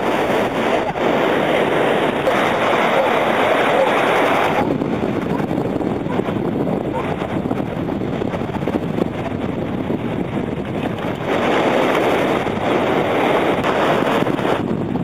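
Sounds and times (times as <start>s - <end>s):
small waves washing: 0.0s - 5.5s, 6.1s - 14.6s
wind buffeting microphone: 0.0s - 15.0s.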